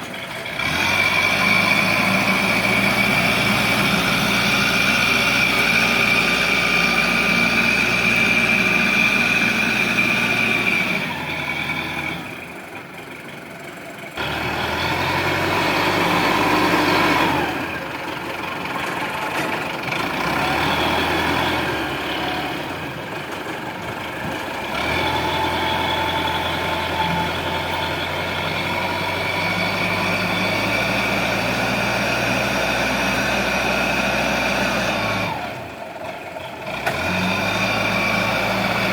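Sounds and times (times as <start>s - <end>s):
loader and truck engines running: 0.0s - 38.9s.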